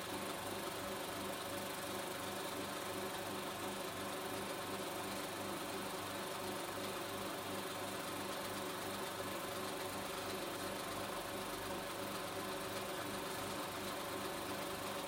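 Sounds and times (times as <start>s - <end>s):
film projector whirring: 0.0s - 15.0s.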